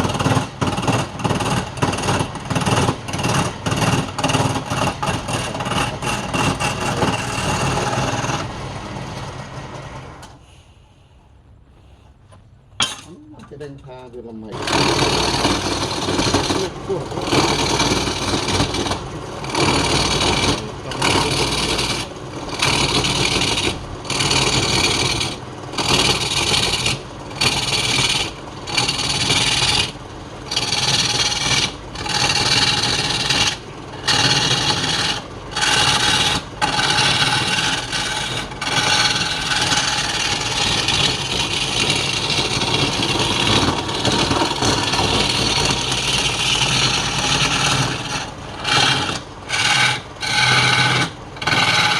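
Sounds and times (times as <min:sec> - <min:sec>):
tool rasping against turning wood: 0:00.0 - 0:08.6, 0:14.5 - 0:51.9.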